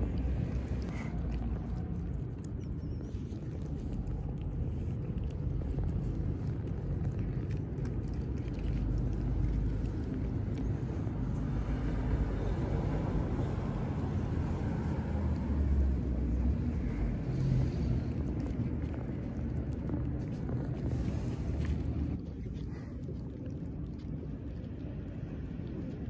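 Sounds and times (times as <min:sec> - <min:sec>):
vehicle passing: 0:00.0 - 0:02.4, 0:03.6 - 0:22.2
cats chewing and licking food: 0:00.0 - 0:26.0
road traffic rumble: 0:00.0 - 0:26.0.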